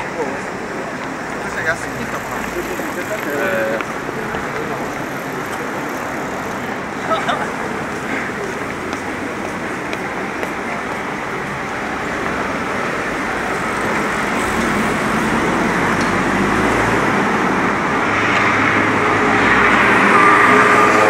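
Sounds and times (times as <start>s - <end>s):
traffic road noise: 0.0s - 21.0s.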